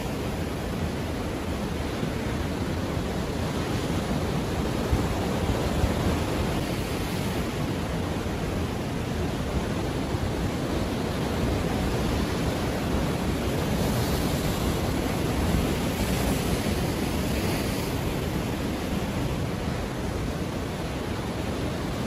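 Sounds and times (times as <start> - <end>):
ocean surf waves breaking: 0.0 - 22.0.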